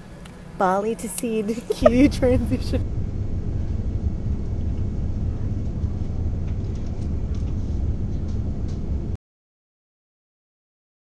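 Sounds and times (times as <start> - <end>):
airliner cabin drone: 0.0 - 9.2.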